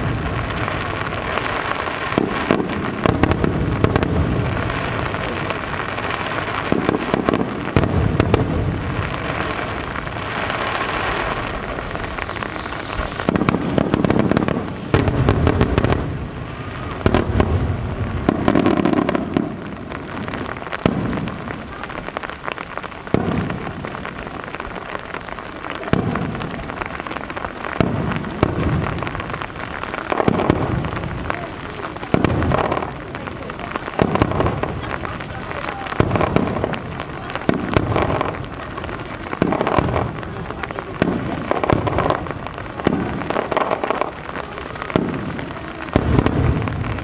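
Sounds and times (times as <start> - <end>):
fireworks booming: 0.0 - 47.0
rain hissing: 0.0 - 47.0.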